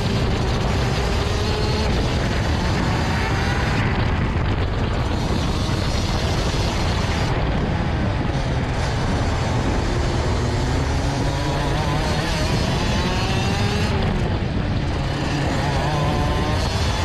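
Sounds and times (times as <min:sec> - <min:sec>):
kart engine accelerating: 0:00.0 - 0:17.0.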